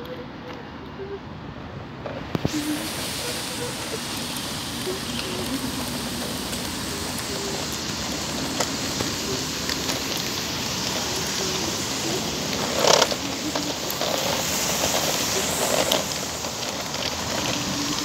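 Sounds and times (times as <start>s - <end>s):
rain hiss: 0.0s - 18.0s
raindrops ticking: 2.3s - 18.0s.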